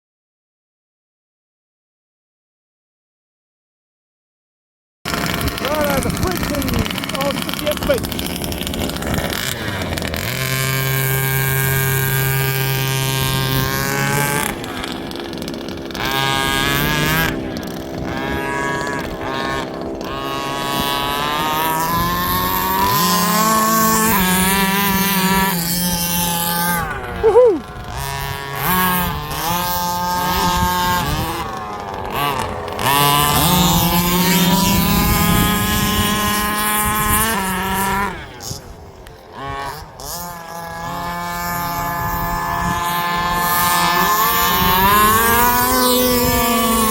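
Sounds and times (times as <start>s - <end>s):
rc car petrol engines revving: 5.1s - 46.9s.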